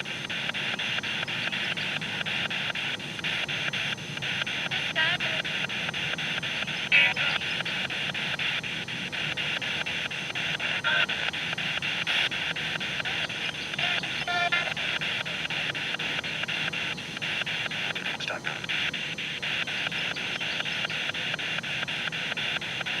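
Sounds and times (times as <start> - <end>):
pulsing radio static: 0.0 - 23.0.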